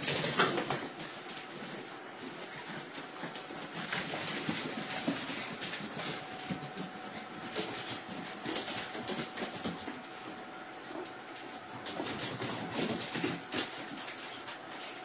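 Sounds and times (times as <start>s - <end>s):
puppy claws clicking on wooden floor: 0.0s - 15.0s.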